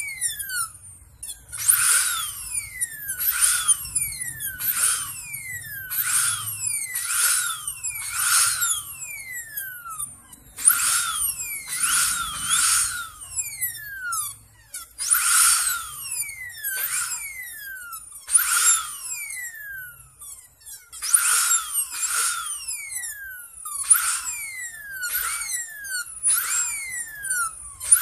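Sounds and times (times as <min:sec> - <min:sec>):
dental drill whining: 0:00.0 - 0:28.0.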